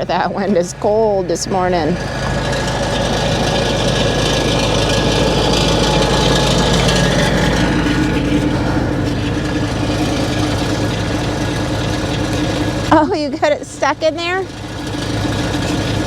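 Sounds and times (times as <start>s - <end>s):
higher steady hum: 0.0s - 16.0s
skid steer engine running: 0.0s - 16.0s.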